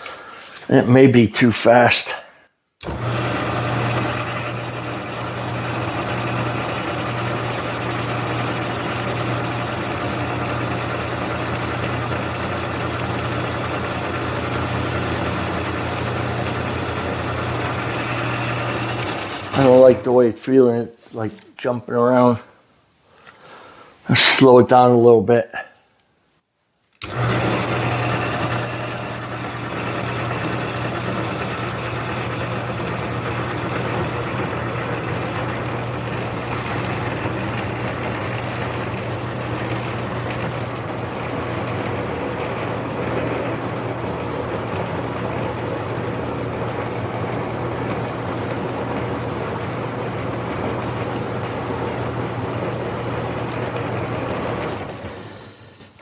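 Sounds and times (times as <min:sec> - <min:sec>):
drill cutting metal: 0:02.8 - 0:20.2, 0:27.0 - 0:55.2
lathe motor hum: 0:02.8 - 0:20.3, 0:27.0 - 0:56.0.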